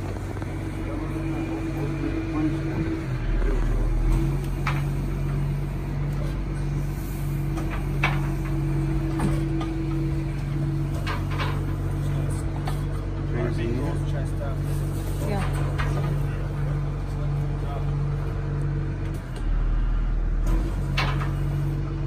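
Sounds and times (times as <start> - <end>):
crane engine and hydraulics humming: 0.0 - 22.0.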